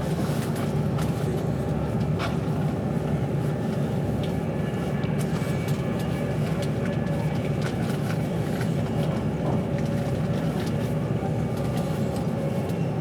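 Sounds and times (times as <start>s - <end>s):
train rumbling at speed: 0.0s - 13.0s.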